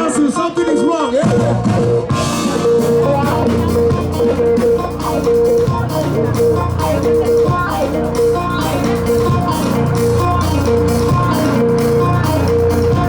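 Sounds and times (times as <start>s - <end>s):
live band dance music: 0.1s - 13.0s
steady drum beat: 1.2s - 13.0s
guitar lines: 2.1s - 13.0s.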